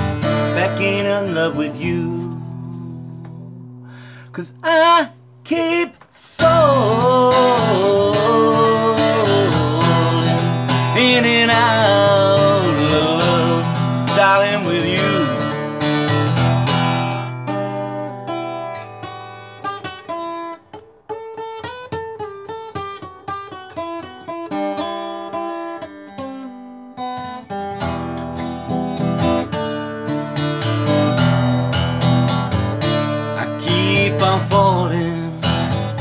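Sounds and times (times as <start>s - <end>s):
acoustic guitar playing: 0.0s - 36.0s.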